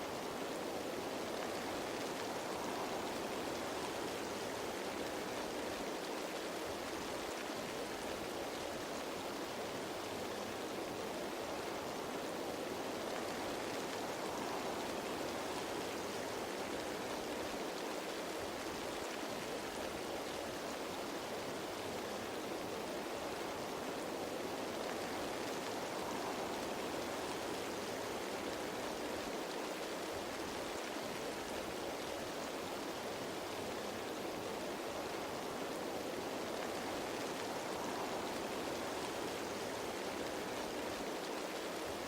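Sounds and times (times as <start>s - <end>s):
rain falling on leaves: 0.0s - 42.0s.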